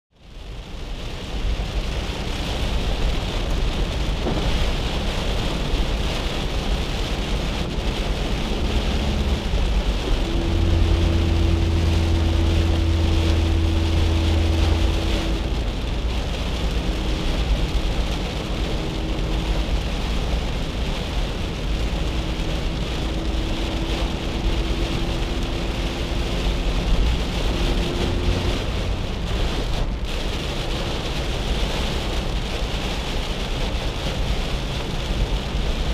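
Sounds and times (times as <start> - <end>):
heavy rain on car roof: 0.1 - 35.9
car engine humming: 0.3 - 35.9.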